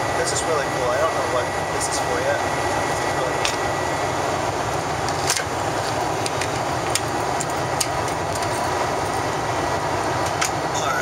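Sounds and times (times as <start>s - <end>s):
airliner cabin rumble with hiss: 0.0s - 11.0s.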